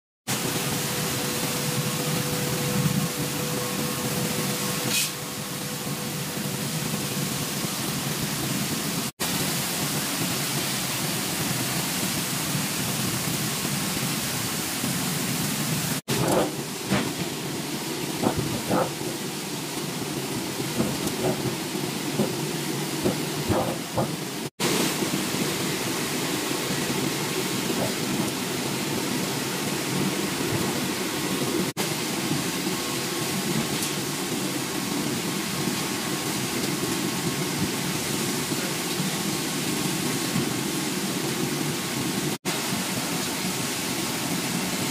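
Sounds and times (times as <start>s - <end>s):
water spray and air blowers rushing: 0.3s - 44.9s.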